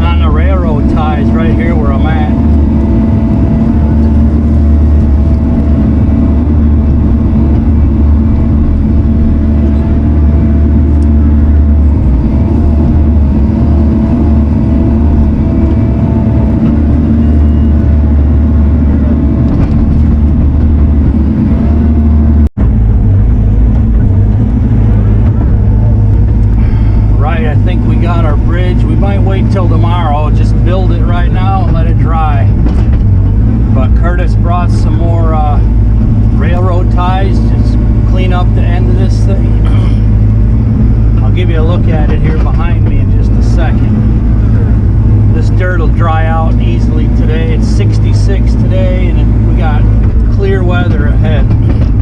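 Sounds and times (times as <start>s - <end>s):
heavy machinery diesel engine: 0.0s - 52.0s
wavering engine whine: 0.0s - 52.0s.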